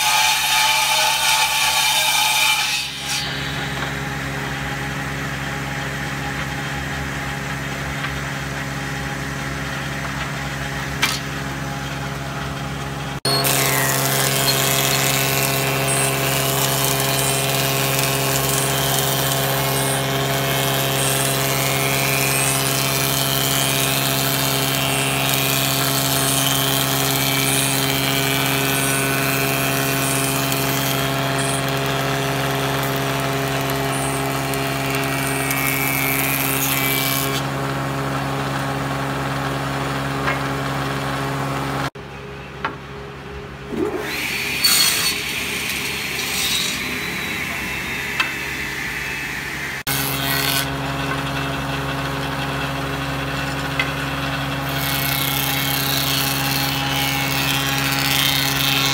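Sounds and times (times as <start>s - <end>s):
planer cutting wood rasping: 0.0s - 42.0s, 43.7s - 58.9s
jointer-planer motor hum: 3.1s - 41.9s, 43.7s - 58.9s.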